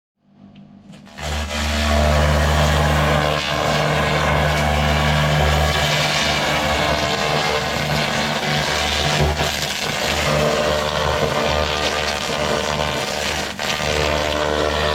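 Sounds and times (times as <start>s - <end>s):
low machine hum: 0.2s - 12.7s
laser hissing and crackling: 2.2s - 14.9s.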